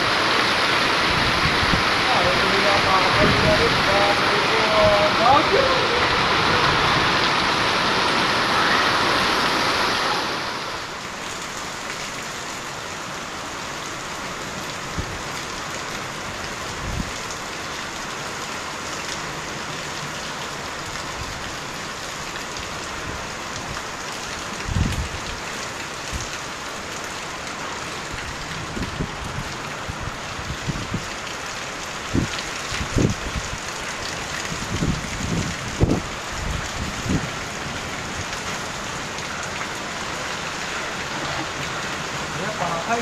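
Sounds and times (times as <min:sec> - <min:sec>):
heavy rain with hail: 0:00.0 - 0:43.0.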